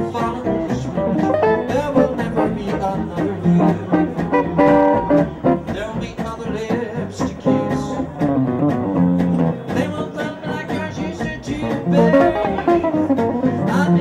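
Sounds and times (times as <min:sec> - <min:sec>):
acoustic guitar: 0:00.0 - 0:14.0
double bass: 0:00.0 - 0:14.0
jazz melody line: 0:00.0 - 0:14.0.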